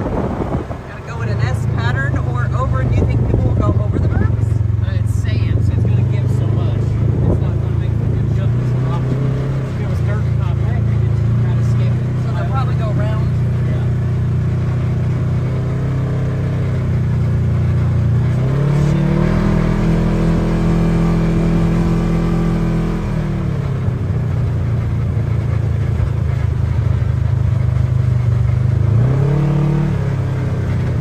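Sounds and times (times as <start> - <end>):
utv engine running: 0.0 - 31.0.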